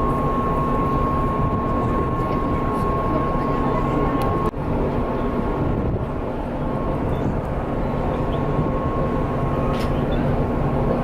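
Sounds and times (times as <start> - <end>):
thin high whine: 0.0 - 4.5, 6.7 - 11.0
machinery hum: 0.0 - 11.0
wind rumbling on microphone: 0.0 - 11.0.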